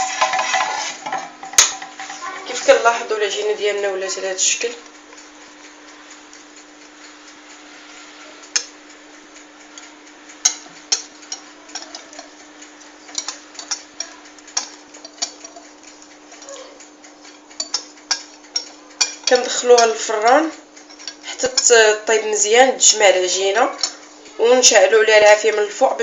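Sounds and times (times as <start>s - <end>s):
utensils tapping bowl and pan: 0.0s - 7.0s, 8.5s - 8.8s, 9.6s - 26.0s
steady hum: 0.0s - 26.0s.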